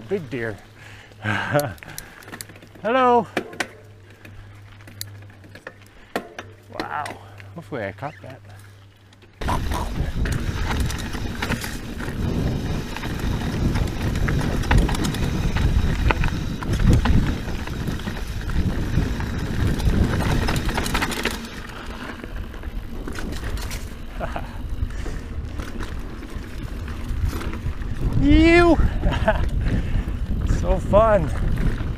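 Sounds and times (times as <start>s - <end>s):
bike rattling over rocks: 0.0s - 31.9s
bike tyre and trail noise: 0.0s - 31.9s.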